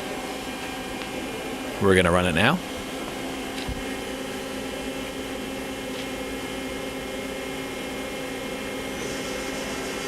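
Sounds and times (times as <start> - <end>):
lathe machine hum: 0.0 - 10.0.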